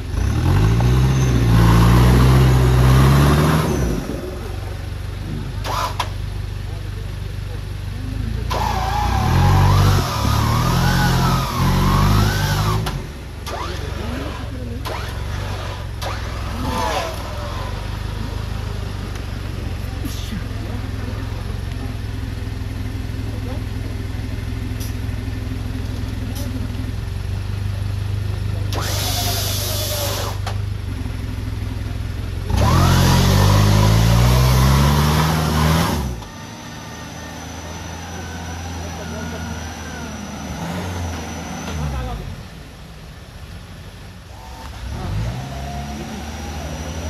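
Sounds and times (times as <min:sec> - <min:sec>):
off-road vehicle engine revving: 0:00.0 - 0:47.0.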